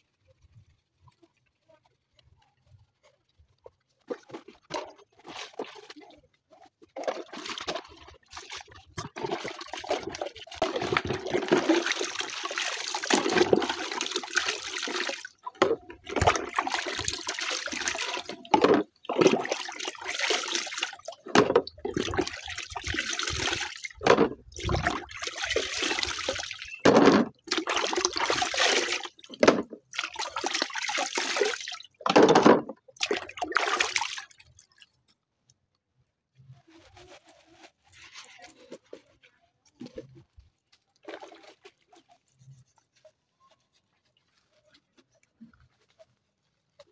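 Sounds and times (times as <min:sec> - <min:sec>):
water splashing in plastic basins: 0:03.5 - 0:35.2, 0:37.8 - 0:46.0.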